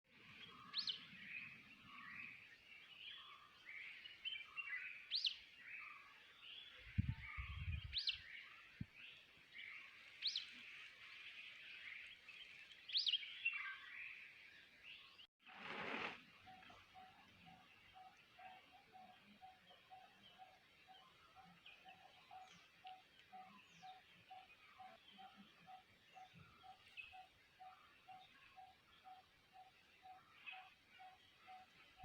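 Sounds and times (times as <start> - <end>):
chorus of bird chirps: 0.1 - 32.0.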